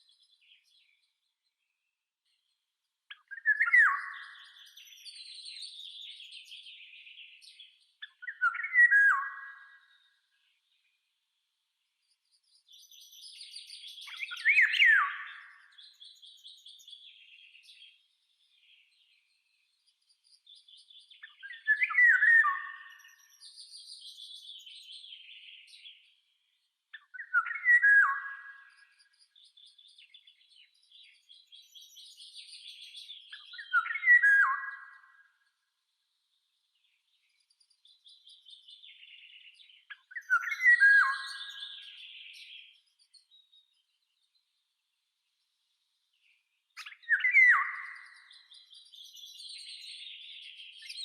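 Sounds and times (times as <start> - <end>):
songbird singing: 0.0 - 51.0.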